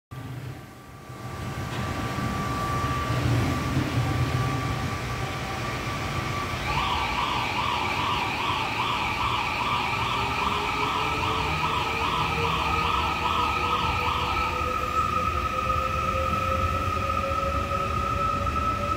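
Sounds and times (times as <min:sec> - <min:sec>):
electric train rumbling: 0:00.2 - 0:18.9
warbling siren alarm: 0:02.1 - 0:18.9.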